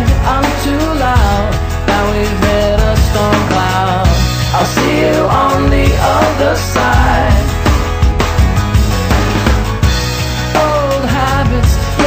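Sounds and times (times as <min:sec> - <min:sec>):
pop-rock song: 0:00.0 - 0:12.0.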